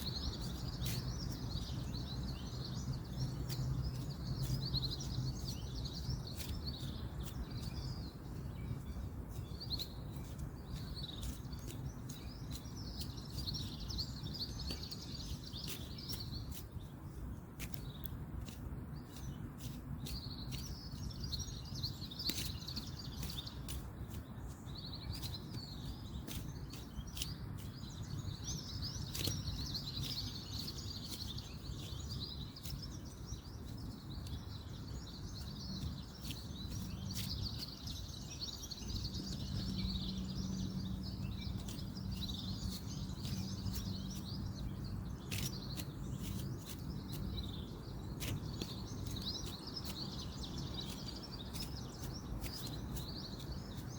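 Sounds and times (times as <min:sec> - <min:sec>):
distant road traffic: 0:00.0 - 0:53.9
songbirds chirping: 0:00.0 - 0:53.9.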